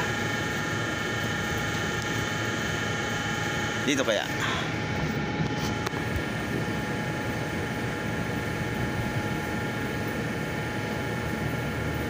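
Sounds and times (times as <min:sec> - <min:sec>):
air-conditioning machinery drone: 0:00.0 - 0:12.0.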